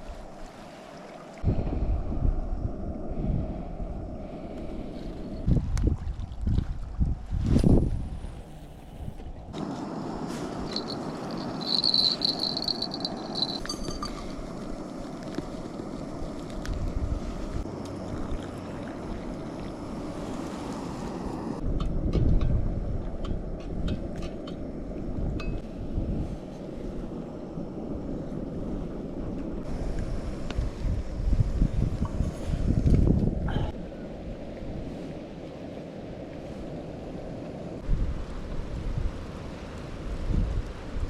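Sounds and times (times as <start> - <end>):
wind rushing over microphone: 1.4 - 41.0.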